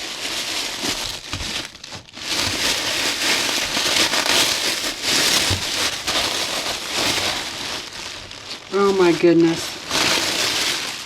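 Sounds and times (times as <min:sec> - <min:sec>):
gift wrapping crinkling: 0:00.0 - 0:11.0.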